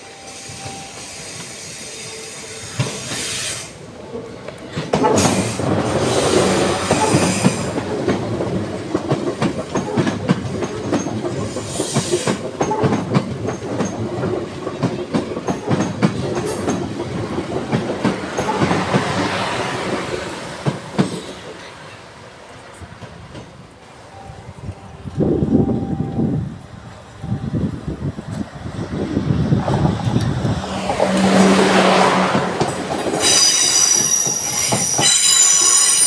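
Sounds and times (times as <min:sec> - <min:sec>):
electric train passing: 0:00.0 - 0:36.0
train wheels clattering on rails: 0:00.4 - 0:22.0, 0:22.7 - 0:23.8, 0:29.4 - 0:36.0.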